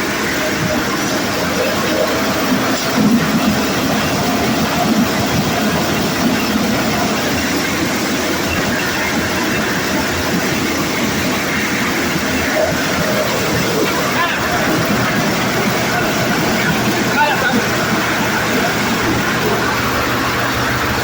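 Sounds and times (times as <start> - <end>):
corn sheller machine rattling: 0.0 - 21.0.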